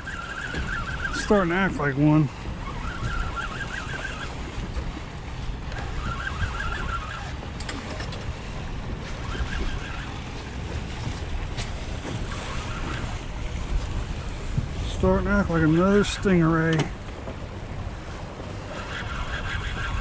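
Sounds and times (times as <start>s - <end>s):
water splashing against boat hull: 0.0s - 20.0s
wind noise on microphone: 0.0s - 20.0s.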